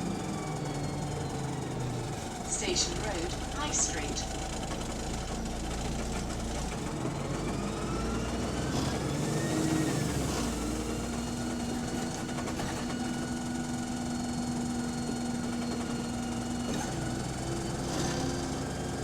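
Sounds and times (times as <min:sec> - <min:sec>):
diesel engine: 0:00.0 - 0:19.0.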